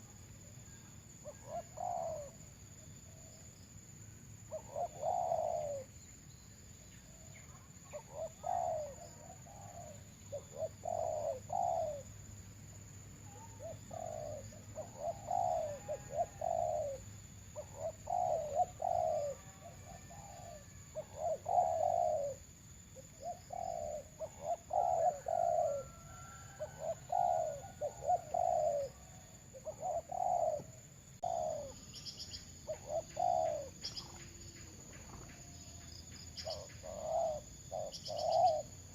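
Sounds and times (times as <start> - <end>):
doves cooing: 1.2 - 2.4, 4.5 - 6.0, 7.9 - 12.2, 13.2 - 38.9.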